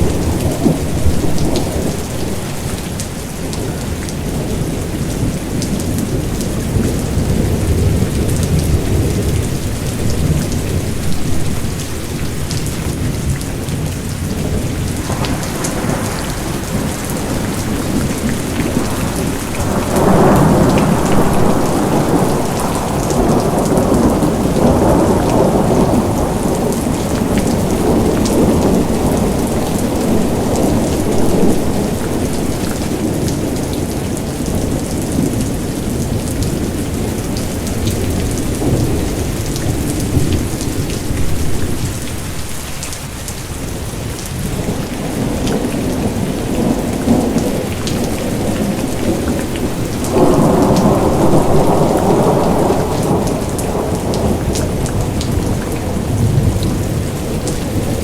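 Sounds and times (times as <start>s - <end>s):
thunder rumbling: 0.0s - 42.8s, 43.7s - 58.0s
steady rain falling: 0.0s - 58.0s.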